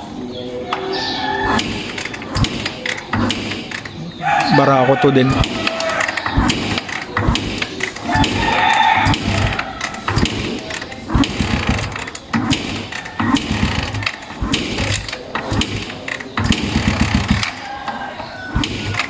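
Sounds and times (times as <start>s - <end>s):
motorcycle engine cranking: 0.7s - 19.0s.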